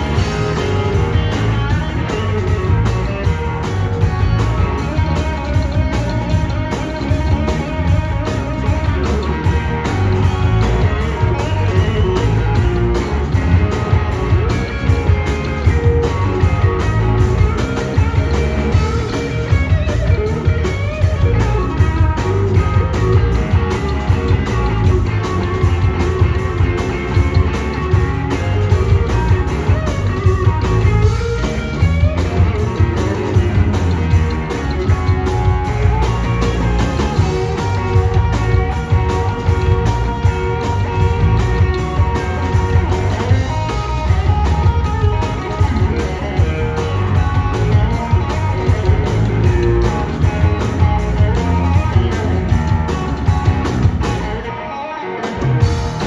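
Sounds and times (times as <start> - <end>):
blues-rock band playing: 0.0 - 56.0
lead electric guitar: 0.0 - 56.0.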